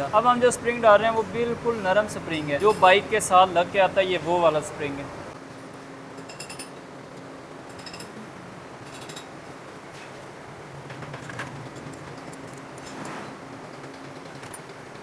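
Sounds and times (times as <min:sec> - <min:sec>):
low background hum: 0:00.0 - 0:12.9.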